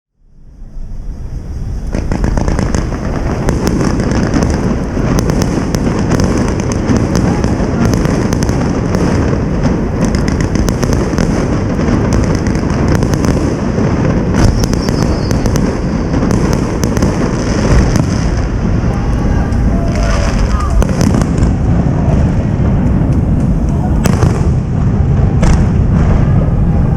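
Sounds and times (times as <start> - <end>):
fireworks bursts and crackles: 0.4 - 26.9.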